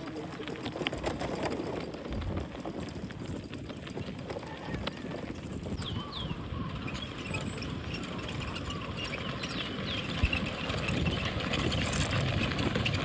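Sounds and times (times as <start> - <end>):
vehicle engine rumble and rattle: 0.0 - 13.0.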